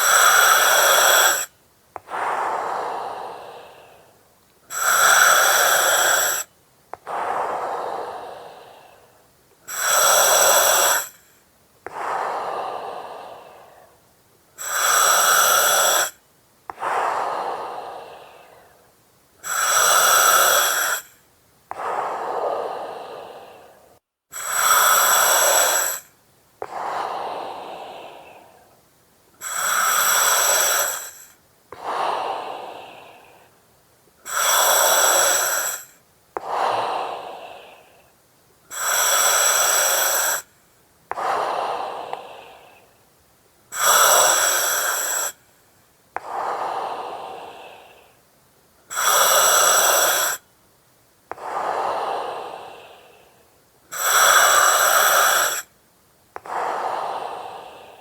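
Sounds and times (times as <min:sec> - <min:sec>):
breathing through oxygen mask: 0:00.0 - 0:14.0, 0:14.6 - 0:18.8, 0:19.4 - 0:28.8, 0:29.4 - 0:33.6, 0:34.2 - 0:38.1, 0:38.7 - 0:40.5, 0:41.1 - 0:42.9, 0:43.7 - 0:45.4, 0:46.2 - 0:48.2, 0:48.9 - 0:50.4, 0:51.3 - 0:55.7, 0:56.4 - 0:58.0.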